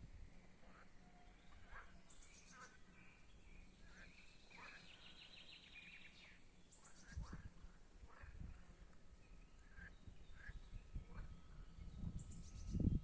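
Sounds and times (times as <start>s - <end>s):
small birds chirping: 0.6s - 13.0s.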